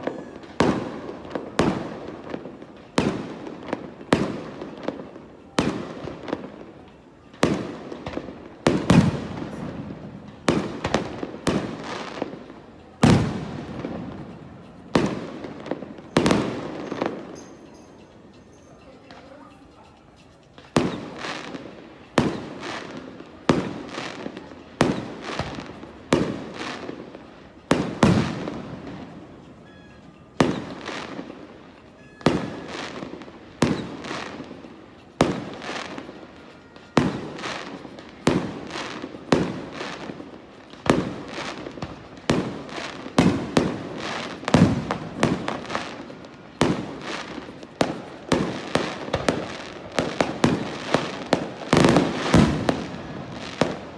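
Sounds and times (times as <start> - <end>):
fireworks booming: 0.0 - 17.8, 20.8 - 53.9.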